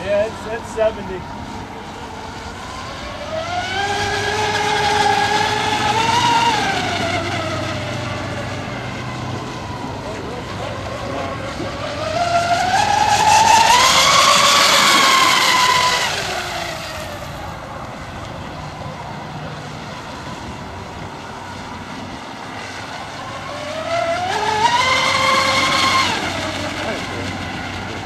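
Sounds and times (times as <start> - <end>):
model boat motors whining: 0.0 - 28.0.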